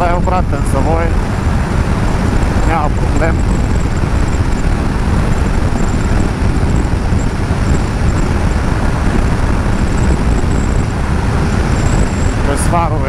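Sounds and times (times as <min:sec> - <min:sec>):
motorcycle road noise: 0:00.0 - 0:13.0
wind rush: 0:00.0 - 0:13.0.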